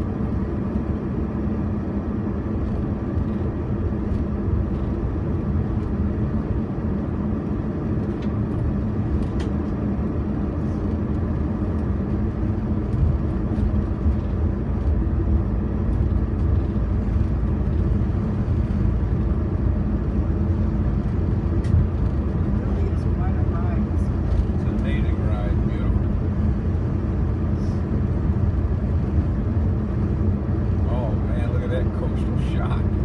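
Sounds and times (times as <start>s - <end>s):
car road noise from inside: 0.0s - 33.0s.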